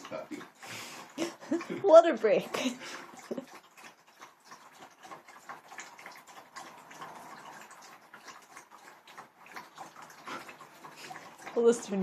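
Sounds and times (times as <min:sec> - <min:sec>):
dog lapping water: 0:00.0 - 0:12.0.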